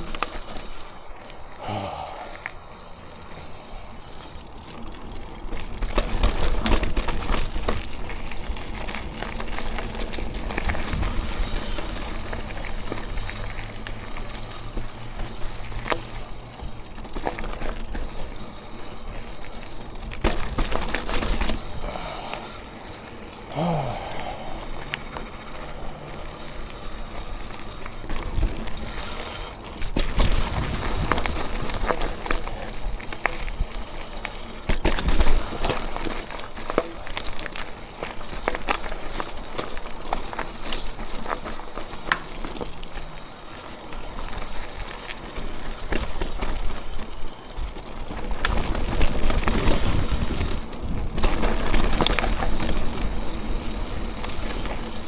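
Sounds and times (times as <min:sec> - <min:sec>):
bike knocking and rattling: 0:00.0 - 0:55.0
bike tyres on dirt and stone: 0:00.0 - 0:55.0.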